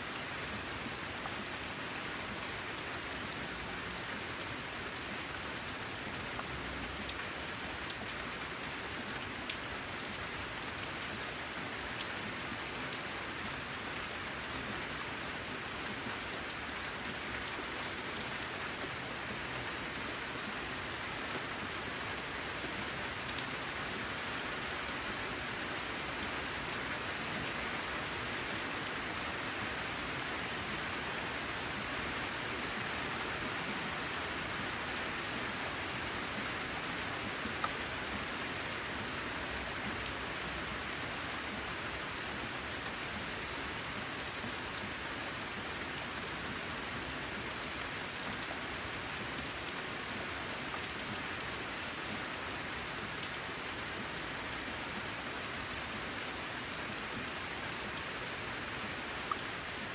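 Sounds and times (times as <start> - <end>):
rain on a metal roof: 0.0 - 59.9.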